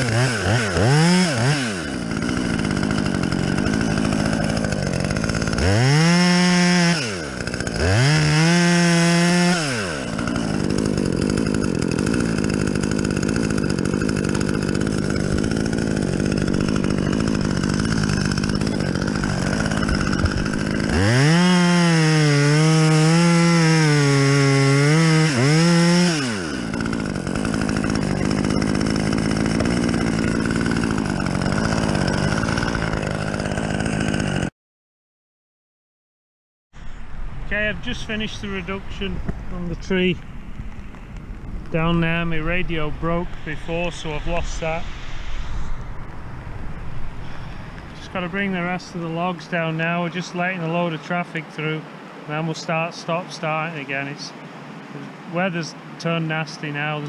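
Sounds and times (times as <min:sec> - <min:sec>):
chainsaw revving: 0:00.0 - 0:34.5, 0:37.6 - 0:54.4.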